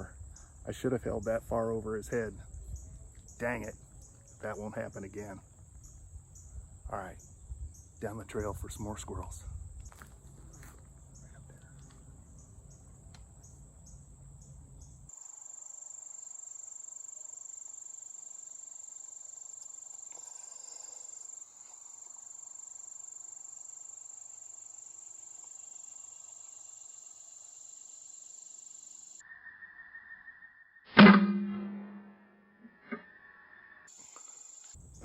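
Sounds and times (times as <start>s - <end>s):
crickets trilling: 0.0s - 30.7s, 33.8s - 35.0s.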